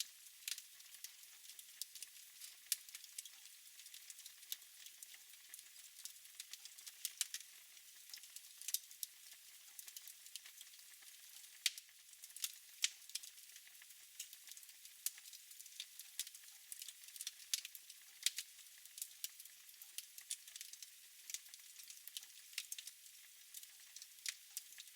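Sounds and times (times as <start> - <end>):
fire crackling and popping: 0.0 - 24.9.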